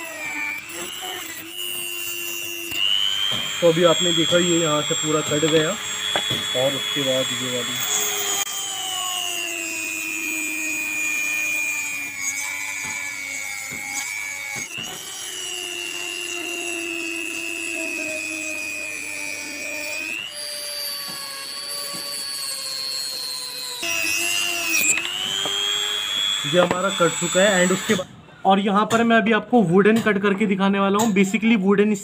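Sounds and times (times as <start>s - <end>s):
die grinder high whine: 0.0s - 28.1s.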